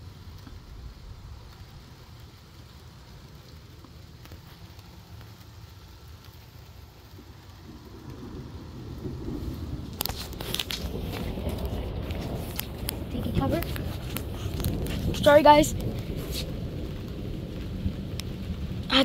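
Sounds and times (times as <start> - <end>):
heavy rain pouring: 0.0 - 19.0
raindrops splashing on concrete: 0.0 - 19.0.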